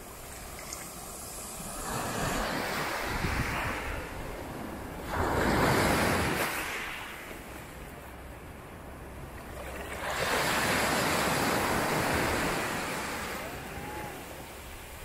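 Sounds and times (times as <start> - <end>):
sea waves breaking on beach: 0.0 - 8.0, 9.2 - 15.0.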